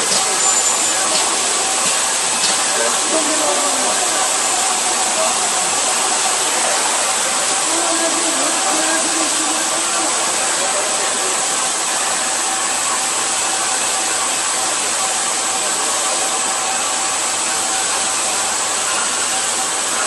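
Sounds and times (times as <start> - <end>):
grinder hiss with high whine: 0.0 - 20.0.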